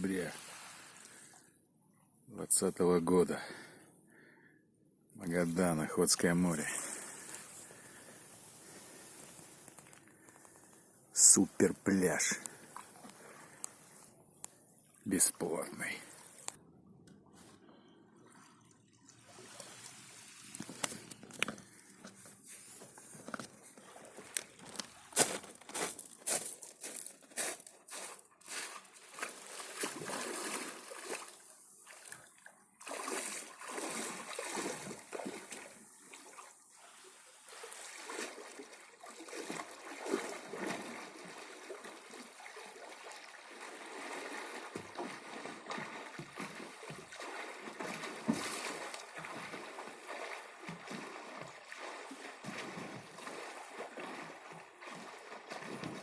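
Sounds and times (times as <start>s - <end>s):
water splashing at shoreline: 0.0s - 1.5s, 5.2s - 16.6s, 17.3s - 26.4s, 27.4s - 56.0s.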